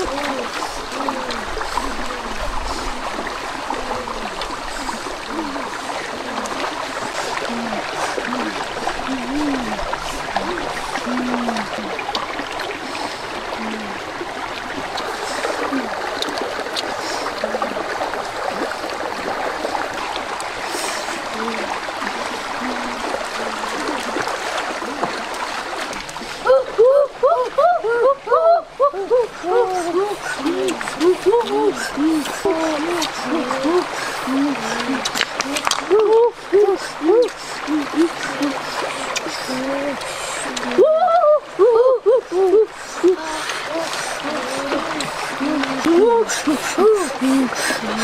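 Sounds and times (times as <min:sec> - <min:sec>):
low water burbling: 0:00.0 - 0:48.0
stream rushing over rocks: 0:00.0 - 0:48.0.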